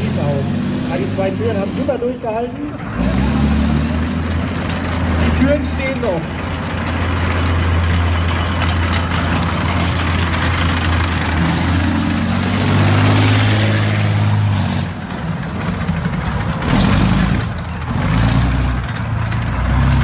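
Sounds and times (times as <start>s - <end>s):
diesel engine running hard: 0.0s - 20.0s.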